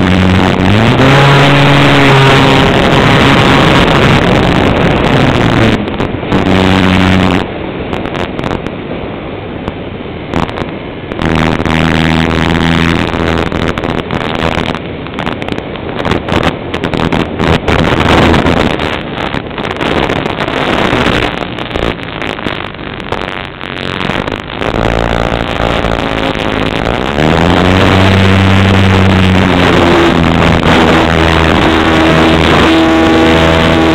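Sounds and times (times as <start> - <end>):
light aircraft engine droning: 0.0 - 33.9
wind buffeting microphone: 0.0 - 33.9.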